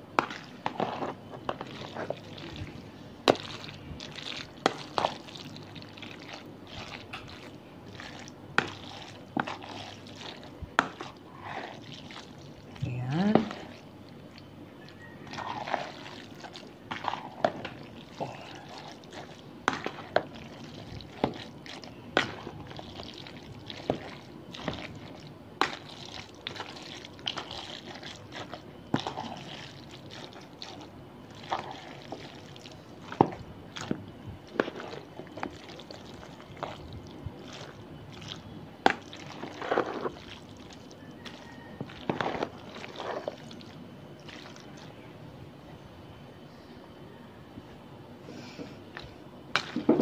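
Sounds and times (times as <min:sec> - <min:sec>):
wet squishing and sloshing: 0:00.0 - 0:45.1, 0:48.4 - 0:50.0.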